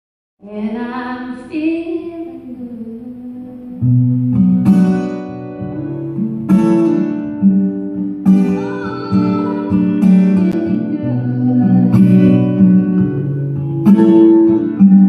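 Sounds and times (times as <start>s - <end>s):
acoustic guitar strumming: 2.6s - 15.0s.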